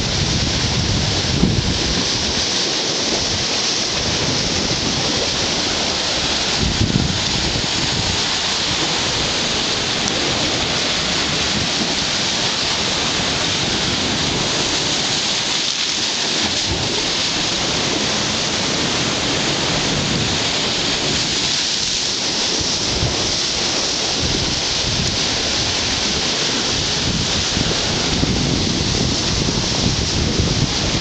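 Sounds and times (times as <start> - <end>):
ocean surf on rocks: 0.0 - 31.0.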